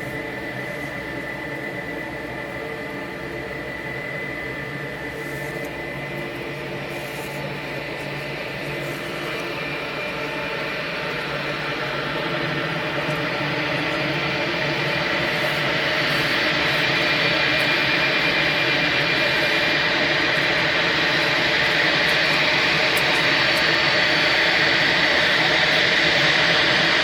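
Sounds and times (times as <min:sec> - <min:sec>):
airliner engines running: 0:00.0 - 0:27.0.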